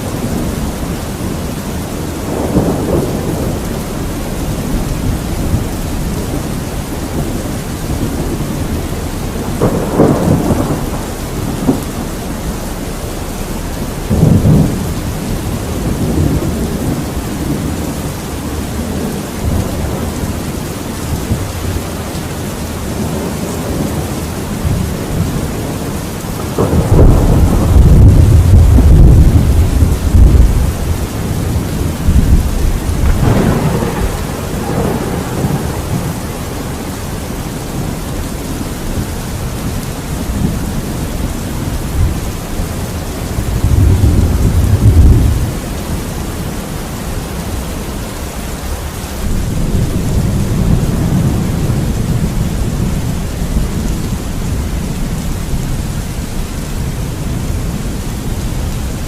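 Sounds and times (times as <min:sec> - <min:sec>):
rolling thunder: 0:00.0 - 0:59.0
steady rain: 0:00.0 - 0:59.0
sharp thunderclap: 0:02.2 - 0:20.4, 0:22.9 - 0:46.0, 0:49.2 - 0:57.8.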